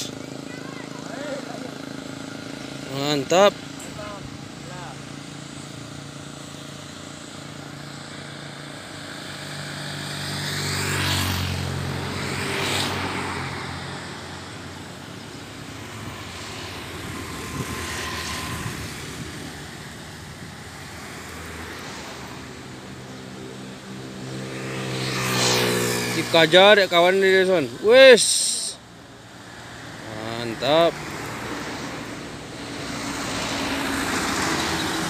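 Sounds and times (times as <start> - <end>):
vehicles passing by: 0.0 - 35.0.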